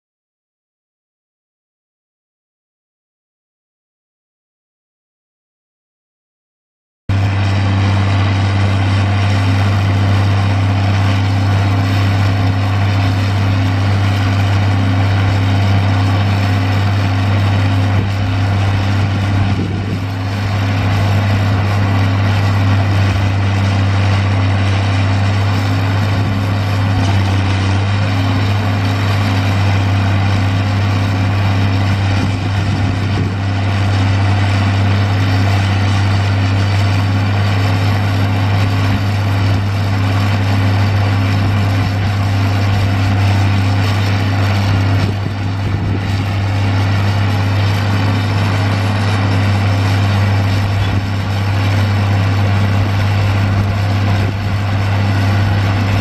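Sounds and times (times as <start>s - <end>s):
diesel engine running steadily: 7.1s - 56.0s.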